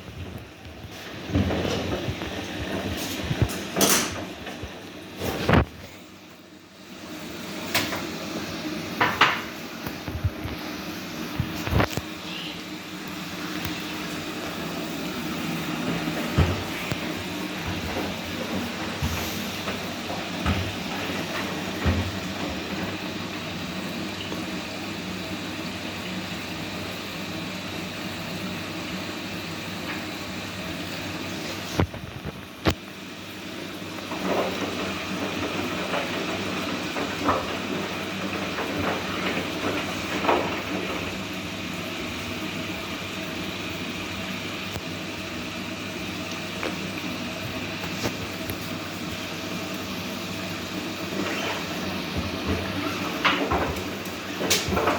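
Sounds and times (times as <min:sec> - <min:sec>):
washing machine whirring: 0:00.0 - 0:54.9.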